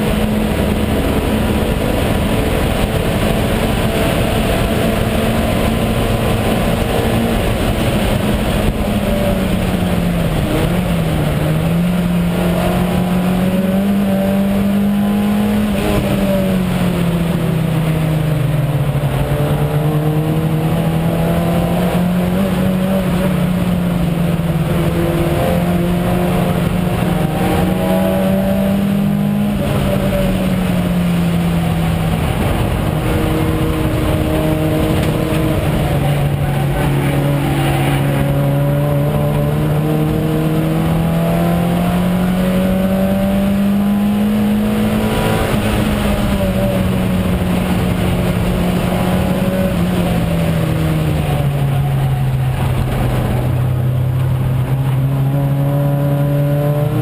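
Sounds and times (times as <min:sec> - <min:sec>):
car engine revving hard: 0:00.0 - 0:57.0.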